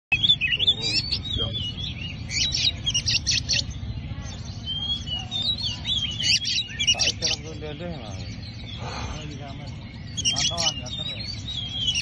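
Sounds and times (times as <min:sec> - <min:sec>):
bird singing: 0:00.1 - 0:12.0
low background rumble: 0:00.1 - 0:12.0.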